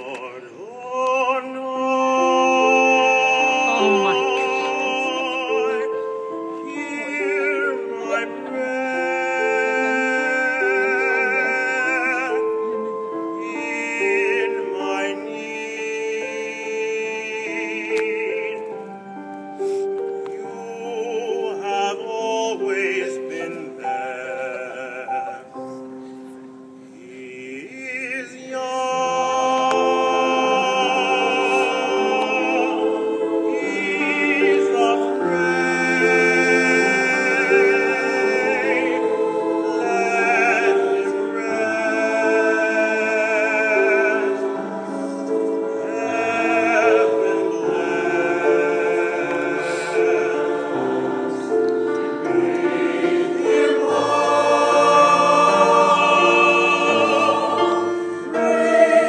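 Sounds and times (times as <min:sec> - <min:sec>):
choir singing sustained chords: 0:00.0 - 0:59.0.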